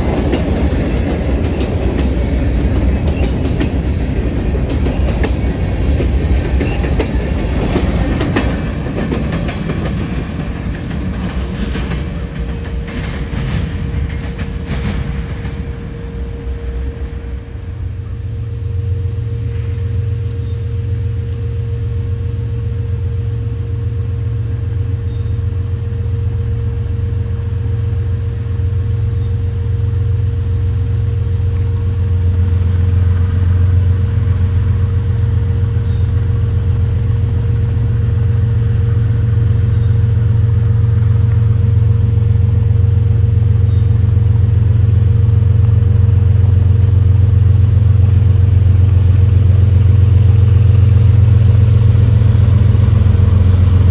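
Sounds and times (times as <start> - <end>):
freight train rumbling: 0.0 - 53.9
held hum: 0.0 - 53.9.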